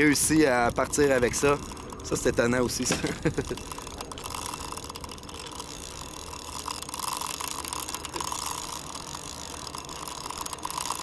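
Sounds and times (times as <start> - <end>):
reel drag clicking: 0.0 - 11.0.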